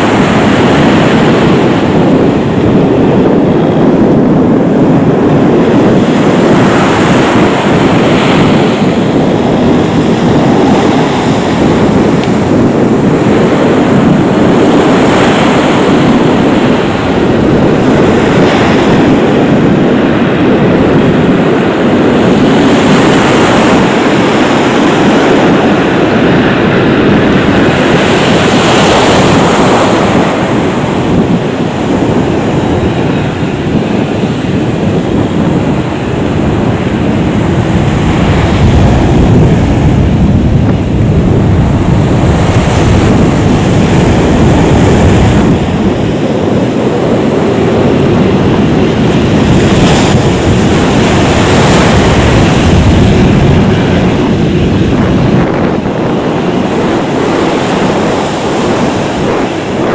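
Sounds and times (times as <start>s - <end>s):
jet engines running loud: 0.0s - 59.9s.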